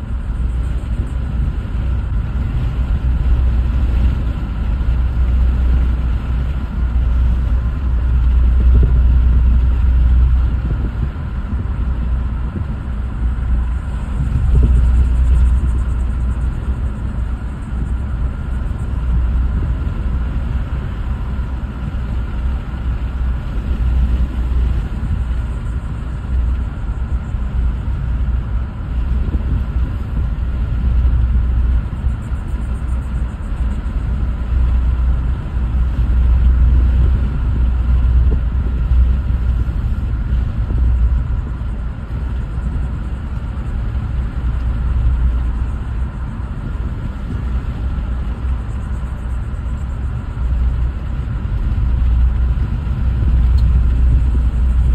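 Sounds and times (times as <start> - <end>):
car road and wind noise: 0.0 - 54.9.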